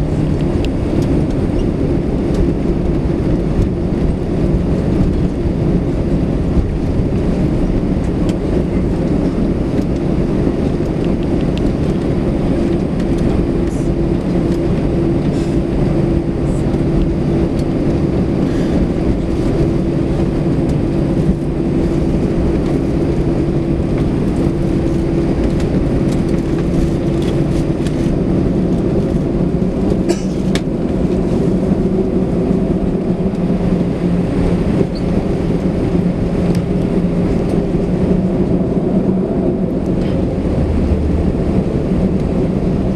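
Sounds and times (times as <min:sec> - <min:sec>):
airliner cabin drone: 0:00.0 - 0:42.9
low hum: 0:00.0 - 0:42.9.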